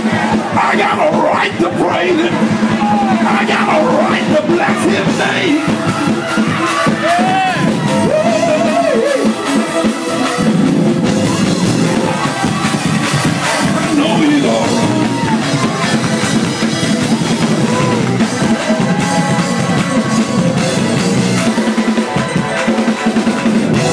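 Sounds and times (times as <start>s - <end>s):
drum kit hits: 0.0s - 23.9s
live church praise music: 0.0s - 23.9s.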